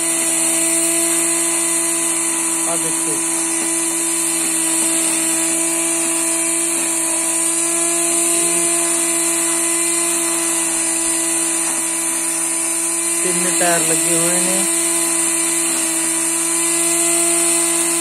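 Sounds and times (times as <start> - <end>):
angle grinder whining: 0.0 - 18.0
grass cutting hiss: 0.0 - 18.0.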